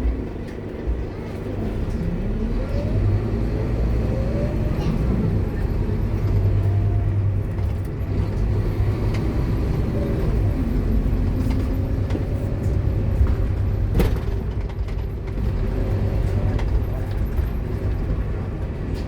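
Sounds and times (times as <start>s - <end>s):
bus diesel engine drone: 0.0s - 19.0s.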